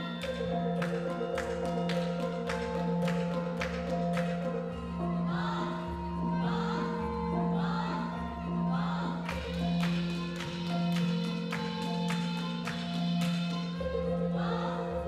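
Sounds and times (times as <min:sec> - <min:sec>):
low pulsing drone: 0:00.0 - 0:15.0
mallet percussion notes: 0:00.0 - 0:15.0.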